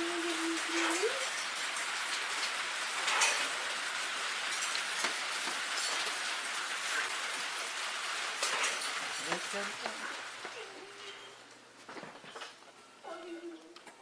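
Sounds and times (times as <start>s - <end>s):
steady hissing noise: 0.0s - 13.9s.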